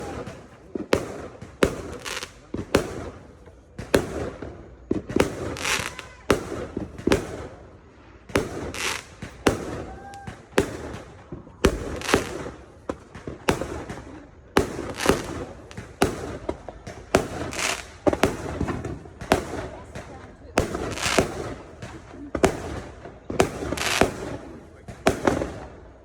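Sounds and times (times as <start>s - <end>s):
fireworks bangs with crackle: 0.0s - 26.0s.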